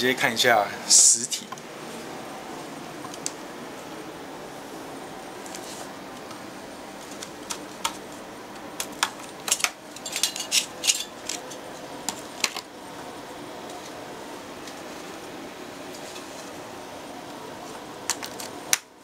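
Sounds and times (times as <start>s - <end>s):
computer fan noise: 0.0s - 19.0s.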